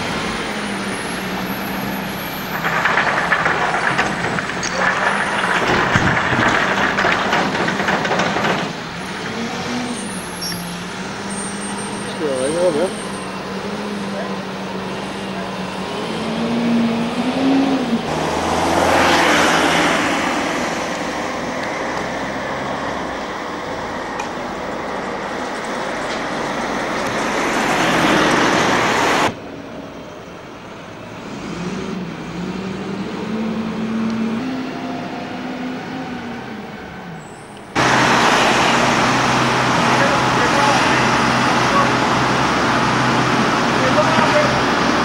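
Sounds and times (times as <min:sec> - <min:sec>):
tyres rushing: 0:00.0 - 0:29.5, 0:36.7 - 0:45.0
vehicles passing close by: 0:00.0 - 0:45.0.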